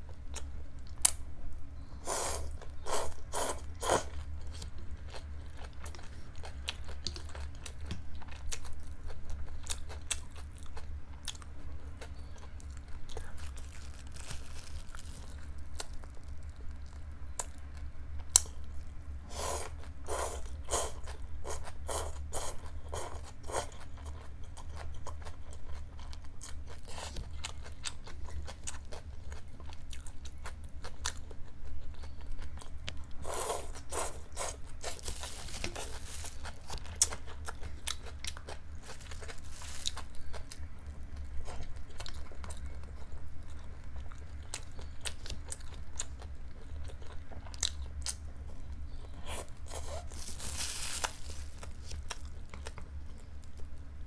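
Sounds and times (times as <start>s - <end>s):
chewing and crunching noodles: 0.0s - 54.0s.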